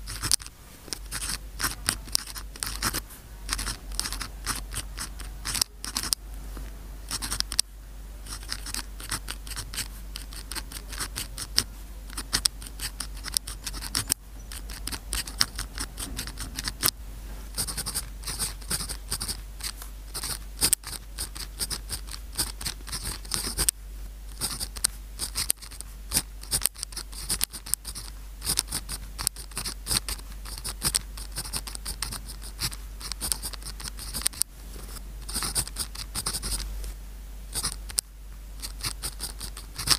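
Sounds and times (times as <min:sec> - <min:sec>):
pen scratching on paper: 0:00.0 - 0:06.2, 0:07.1 - 0:07.6, 0:08.2 - 0:16.9, 0:17.5 - 0:23.7, 0:24.3 - 0:36.6, 0:37.5 - 0:38.0, 0:38.6 - 0:39.9.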